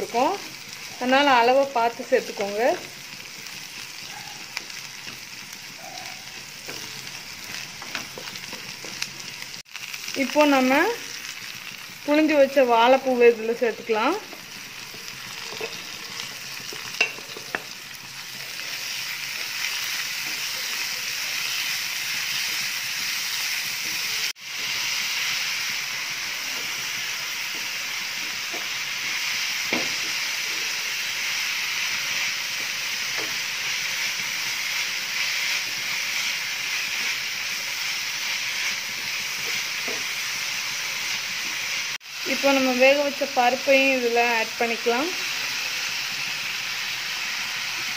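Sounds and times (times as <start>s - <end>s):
vegetables sizzling in metal pan: 0.0s - 47.9s.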